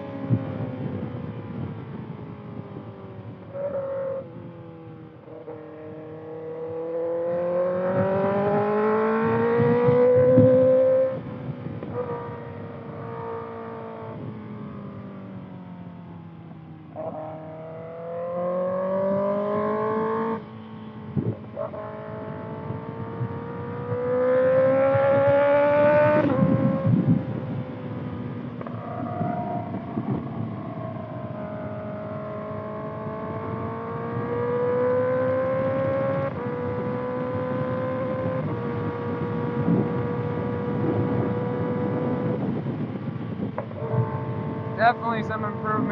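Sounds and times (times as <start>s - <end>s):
motorcycle engine revving: 2.6s - 15.0s, 16.1s - 45.9s.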